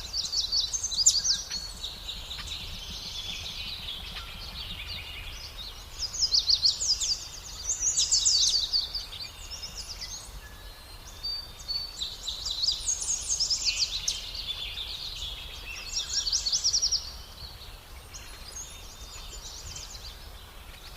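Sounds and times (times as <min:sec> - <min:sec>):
nestling birds cheeping: 0:00.0 - 0:20.9.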